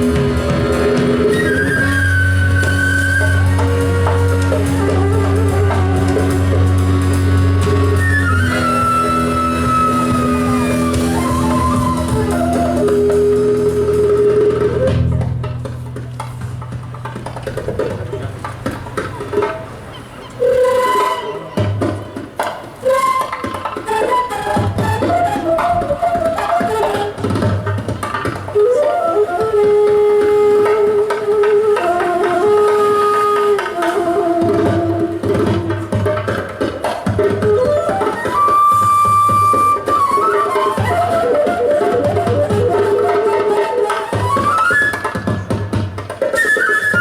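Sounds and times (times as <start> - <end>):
live band music: 0.0 - 47.0.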